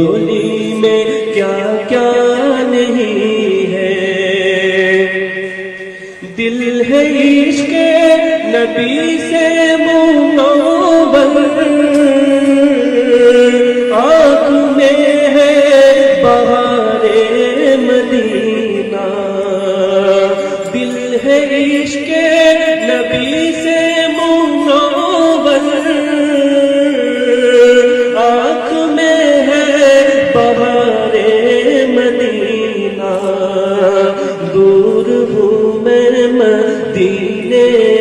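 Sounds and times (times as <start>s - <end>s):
man singing devotional song: 0.0s - 38.0s.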